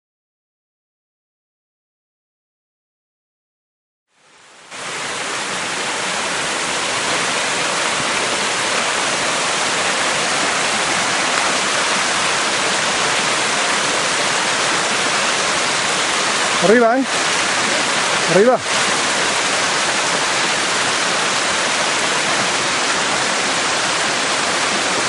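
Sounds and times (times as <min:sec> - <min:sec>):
forest stream rushing: 0:04.1 - 0:25.0.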